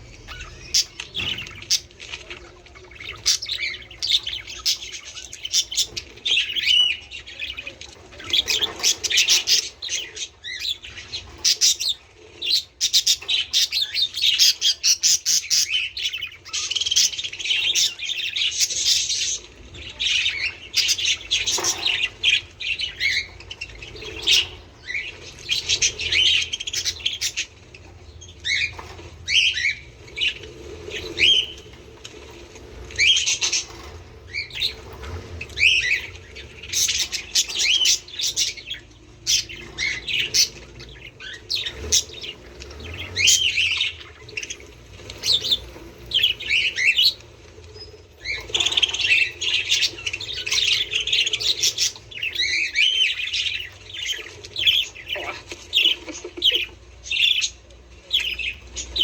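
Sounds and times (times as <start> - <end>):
budgerigars chattering: 0.0 - 32.2, 32.8 - 59.0.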